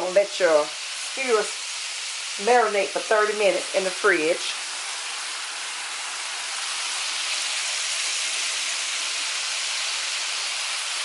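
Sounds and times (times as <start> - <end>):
shrimp sizzling on a grill: 0.0 - 11.0.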